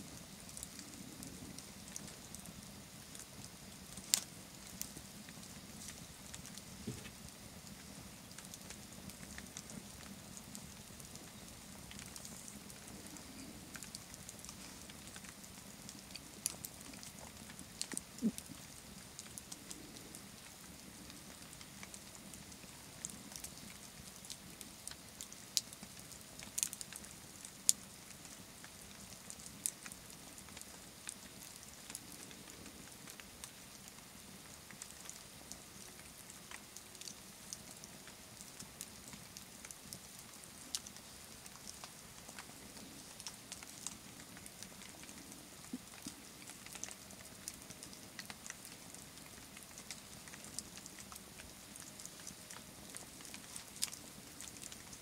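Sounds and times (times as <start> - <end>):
campfire crackling: 0.0 - 55.0
faint steady hiss: 0.0 - 55.0.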